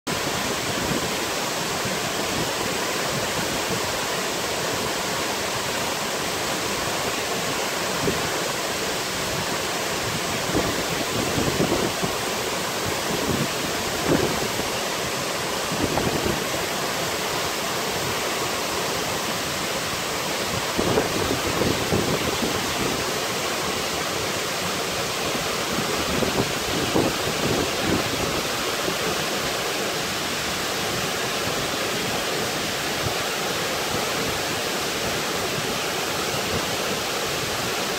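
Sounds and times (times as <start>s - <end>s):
waterfall pouring into pool: 0.1s - 37.9s.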